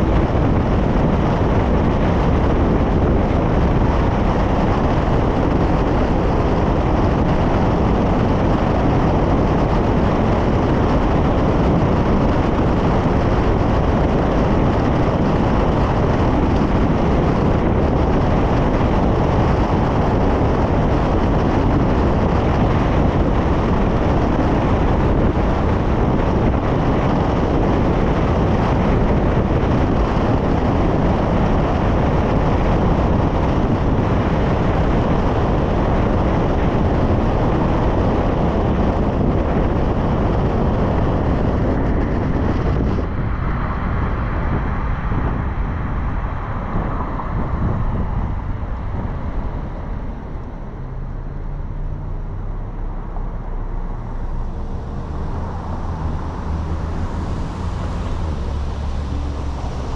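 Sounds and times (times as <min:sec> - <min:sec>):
low engine hum: 0:00.0 - 0:59.9
tyre and wind noise: 0:00.0 - 0:59.9.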